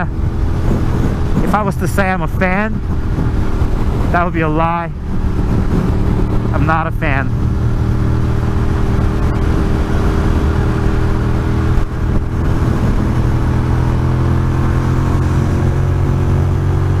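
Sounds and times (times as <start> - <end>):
motorcycle engine at speed: 0.0 - 17.0.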